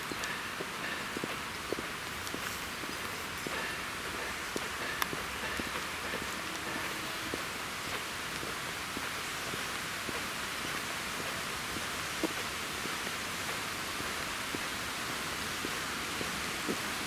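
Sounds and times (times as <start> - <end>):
faint footsteps on tarmac: 0.0 - 17.0
steady outdoor hiss: 0.0 - 17.0.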